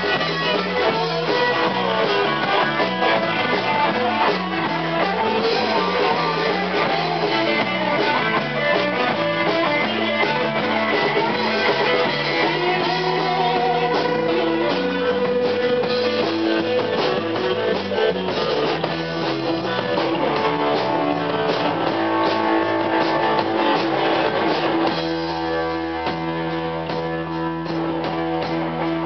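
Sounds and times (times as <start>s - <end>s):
bass guitar: 0.0s - 29.0s
drum kit: 0.0s - 29.0s
electric guitar: 0.0s - 29.0s.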